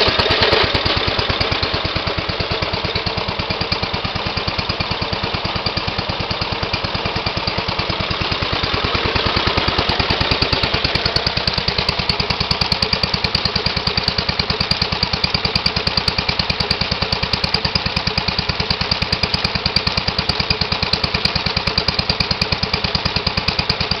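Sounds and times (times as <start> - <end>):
single-cylinder engine running: 0.0 - 24.0.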